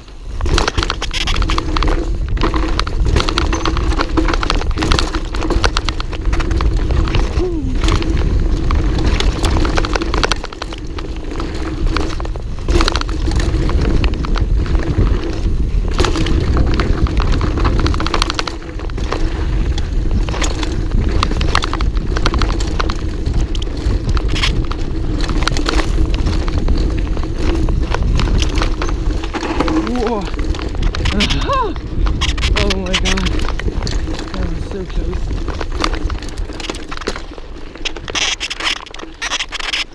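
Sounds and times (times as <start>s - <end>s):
bike rattling clicks: 0.0s - 39.9s
tyres rushing on dirt: 0.0s - 39.9s.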